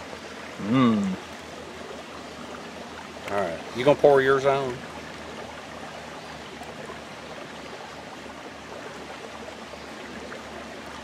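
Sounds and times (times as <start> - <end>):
creek flowing: 0.0 - 11.0.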